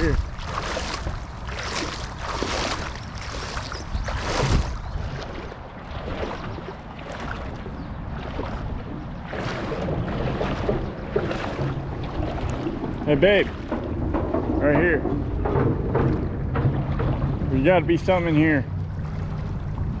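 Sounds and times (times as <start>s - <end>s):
creek water running: 0.0s - 20.0s
wind buffeting microphone: 0.0s - 20.0s.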